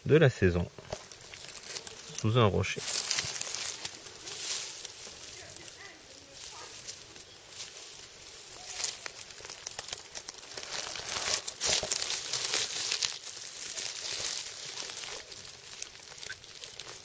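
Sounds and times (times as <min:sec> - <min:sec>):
dry leaves crackling and rustling: 0:00.4 - 0:17.0.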